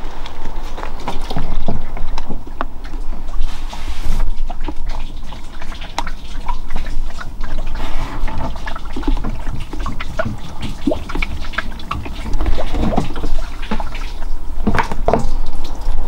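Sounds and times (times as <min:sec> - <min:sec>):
water pouring and splashing: 0:00.0 - 0:16.0.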